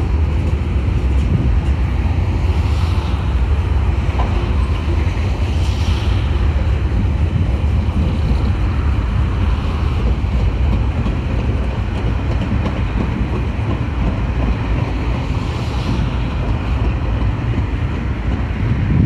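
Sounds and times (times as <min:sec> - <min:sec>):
train wheels rumbling on rails: 0:00.0 - 0:19.0
wind noise on microphone: 0:00.0 - 0:19.0.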